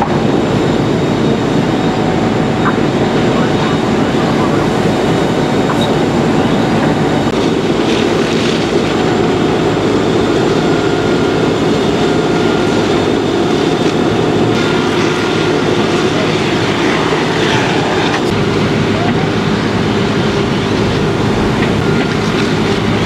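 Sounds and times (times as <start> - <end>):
fire engine pump drone: 0.0 - 23.0
water rushing: 1.6 - 23.0.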